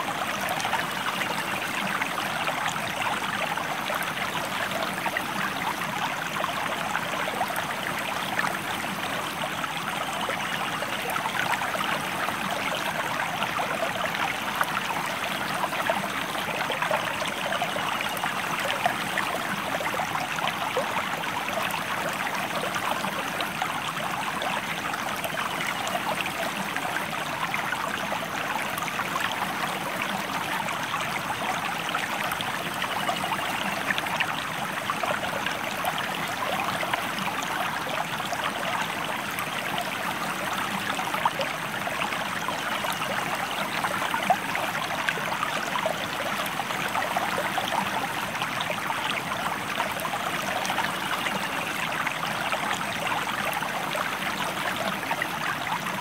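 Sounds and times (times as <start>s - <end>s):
river water running over rocks: 0.0s - 56.0s.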